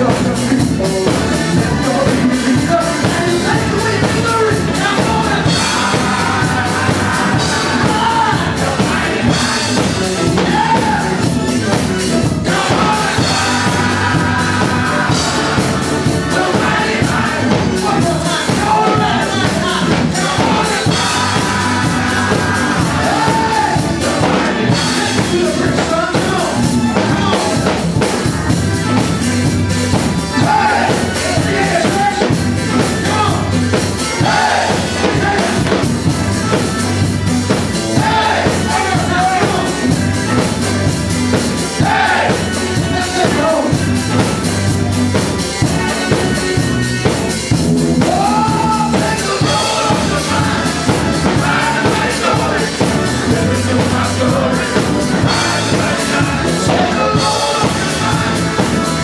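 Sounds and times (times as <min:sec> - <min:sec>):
drums: 0:00.0 - 0:59.0
men's gospel choir singing: 0:00.0 - 0:59.0.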